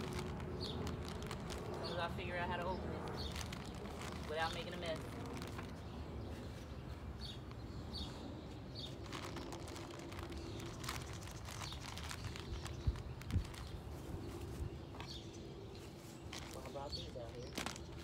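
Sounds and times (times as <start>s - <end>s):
bag rustling and crackling: 0.0s - 6.7s, 7.3s - 18.0s
traffic rumble: 0.0s - 18.0s
bird chirping: 0.4s - 18.0s.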